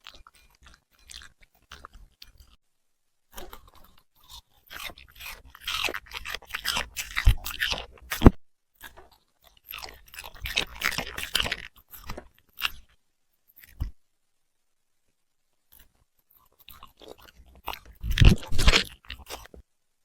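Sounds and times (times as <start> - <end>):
puppy chewing and crunching food: 0.0 - 2.6, 3.3 - 14.0, 15.7 - 19.7.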